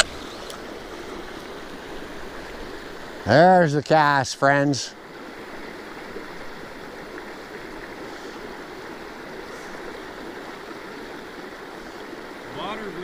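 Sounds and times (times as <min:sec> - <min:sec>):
river water rushing over rocks: 0:00.0 - 0:13.0.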